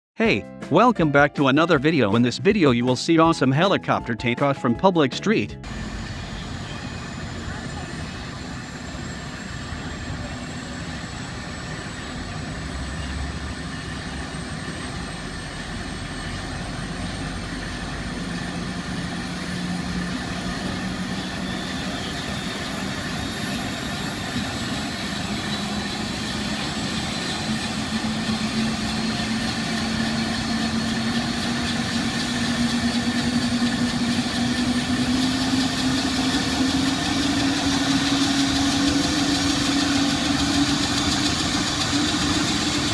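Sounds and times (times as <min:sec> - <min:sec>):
helicopter engine and rotor spooling up: 0:05.6 - 0:42.9.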